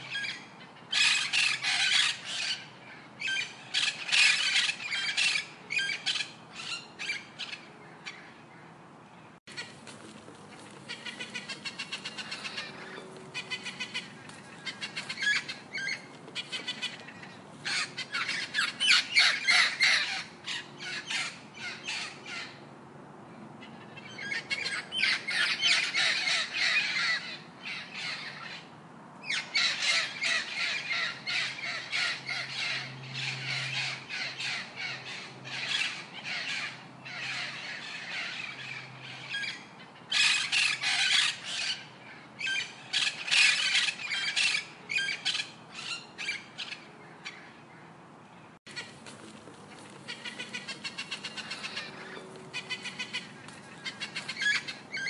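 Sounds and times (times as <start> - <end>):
birds squawking and chirping: 0.0 - 22.7, 23.3 - 55.0.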